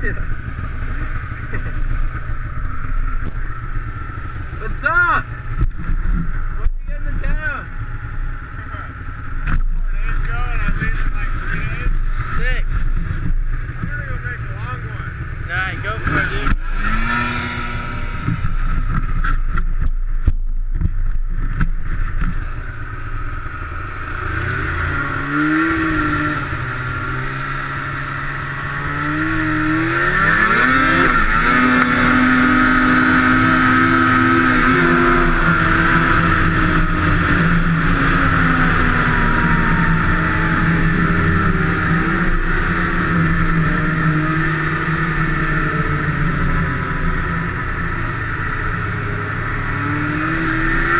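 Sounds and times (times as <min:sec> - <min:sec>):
snowmobile engine revving: 0:00.0 - 0:20.2, 0:21.3 - 0:50.9.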